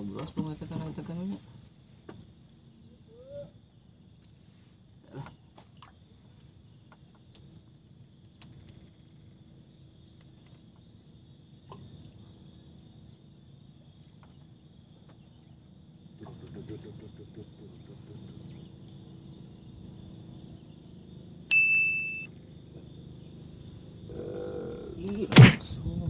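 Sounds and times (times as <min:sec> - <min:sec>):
faint insect buzz: 0:00.0 - 0:26.0.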